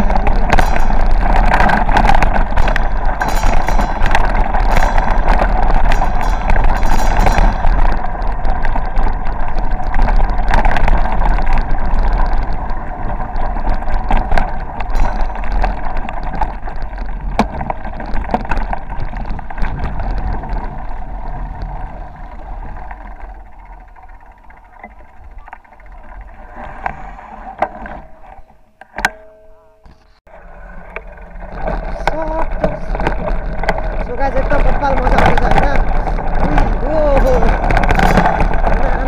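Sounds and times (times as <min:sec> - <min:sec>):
bicycle knocks and rattles: 0:00.0 - 0:39.0.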